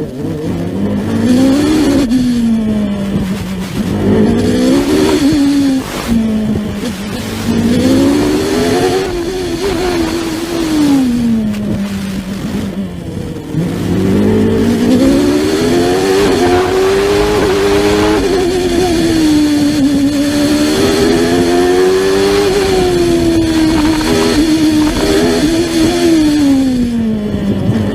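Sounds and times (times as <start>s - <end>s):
racing car engine accelerating: 0.0s - 27.9s.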